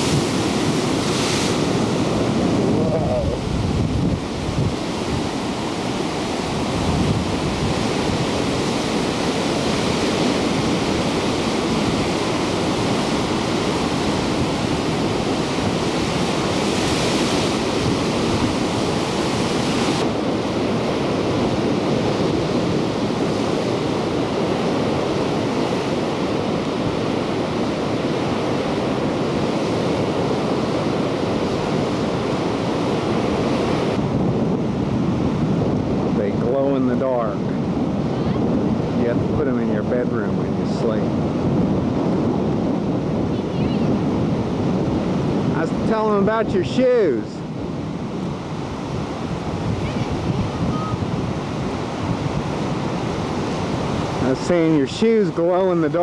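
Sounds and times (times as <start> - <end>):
surf breaking on rocks: 0.0 - 43.3, 43.9 - 56.0.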